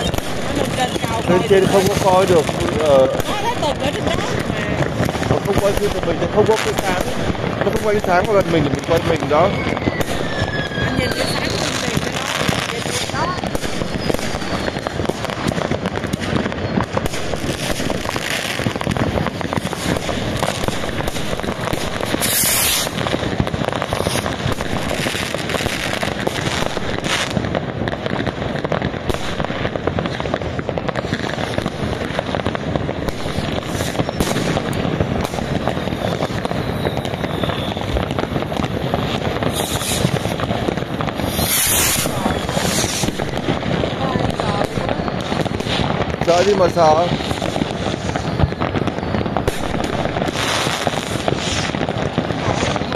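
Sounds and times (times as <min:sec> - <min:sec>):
firecrackers crackling: 0:00.0 - 0:52.9
fireworks bursting: 0:00.0 - 0:52.9
sharp firework bangs: 0:00.0 - 0:52.9.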